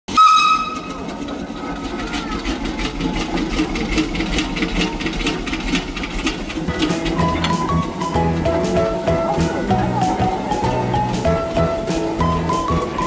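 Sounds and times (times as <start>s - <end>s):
machinery clattering: 0.1s - 13.0s
low machine rumble: 0.2s - 13.0s.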